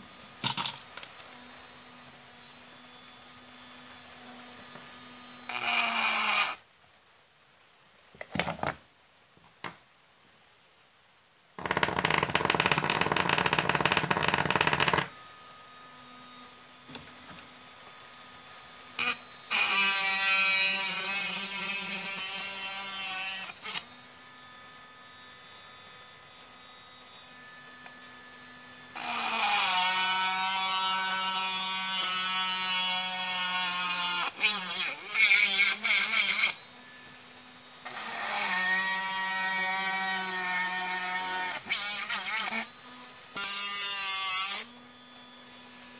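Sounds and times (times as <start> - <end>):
drill boring into wood: 0.0 - 6.6, 11.6 - 45.9
small drill motor whirring: 0.0 - 6.6, 11.6 - 45.9.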